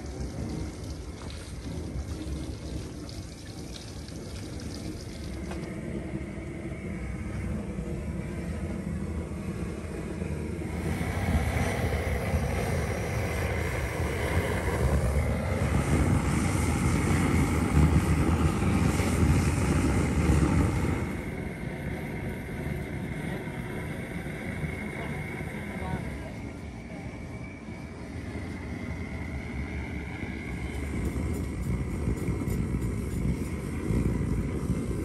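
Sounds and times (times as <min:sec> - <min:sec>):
gas blowtorch roaring: 0:00.0 - 0:35.0.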